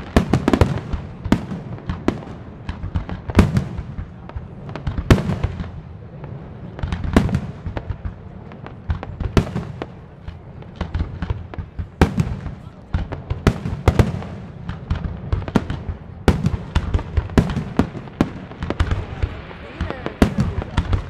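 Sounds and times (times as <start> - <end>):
firework bangs and crackles: 0.0 - 21.0.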